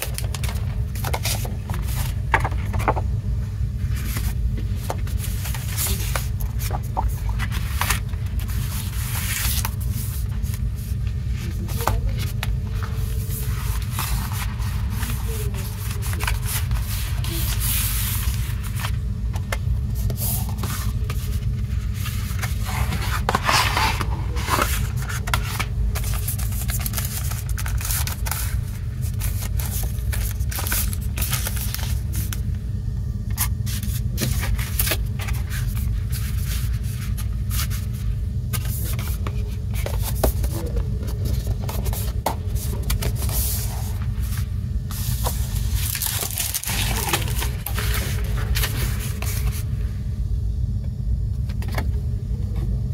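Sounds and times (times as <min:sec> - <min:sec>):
paper and cardboard rustling: 0:00.0 - 0:03.1, 0:03.8 - 0:32.5, 0:33.3 - 0:49.7
low hum: 0:00.0 - 0:52.9.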